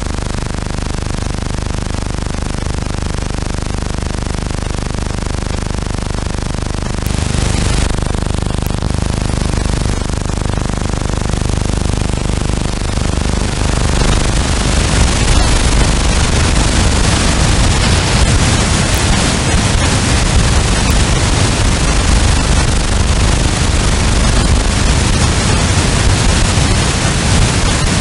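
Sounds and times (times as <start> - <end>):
radio static hiss: 0.0 - 28.0.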